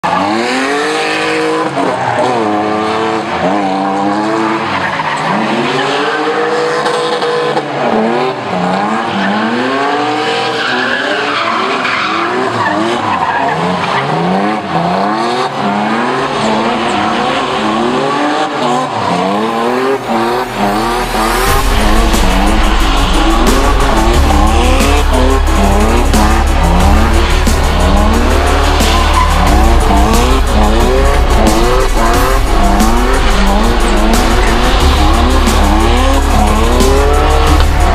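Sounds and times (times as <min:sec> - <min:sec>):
tyres squealing on asphalt: 0:00.0 - 0:31.8
car engine revving: 0:00.0 - 0:37.9.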